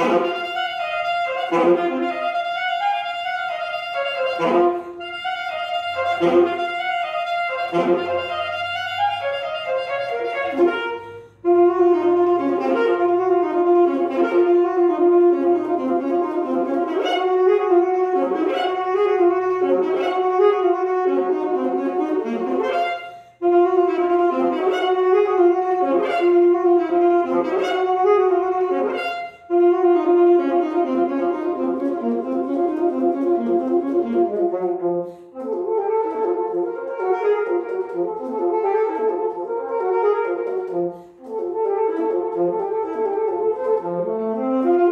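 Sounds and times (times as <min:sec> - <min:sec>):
alto saxophone melody: 0:00.0 - 0:44.9.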